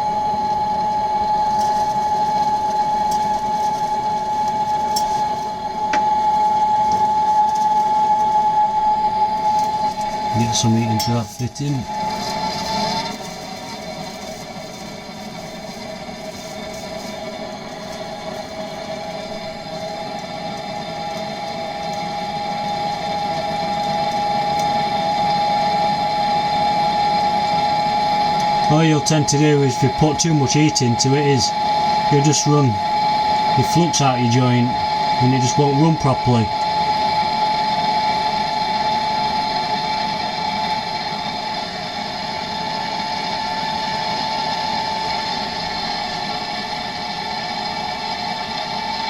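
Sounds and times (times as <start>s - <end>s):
gas blowtorch hissing: 0.0s - 49.0s.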